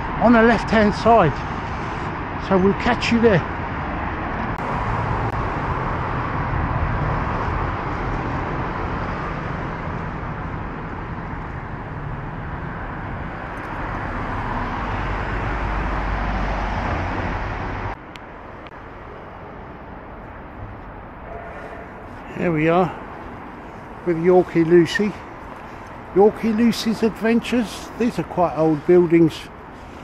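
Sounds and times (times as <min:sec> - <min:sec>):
cars and buses passing: 0:00.0 - 0:30.0.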